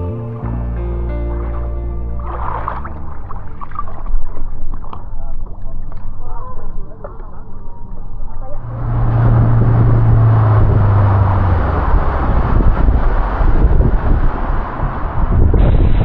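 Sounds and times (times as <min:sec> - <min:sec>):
speedboat engine running: 0:00.0 - 0:15.6
rushing water: 0:00.9 - 0:15.6
wind noise: 0:02.4 - 0:16.0.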